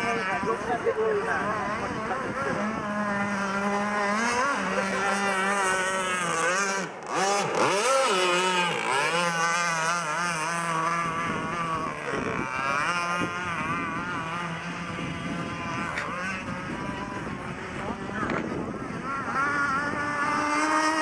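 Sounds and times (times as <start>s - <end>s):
small gas engine revving: 0.0s - 21.0s.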